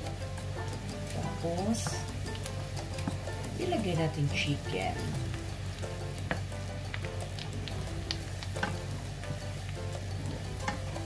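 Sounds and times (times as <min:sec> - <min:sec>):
garlic and onion sizzling in butter: 0:00.0 - 0:11.0.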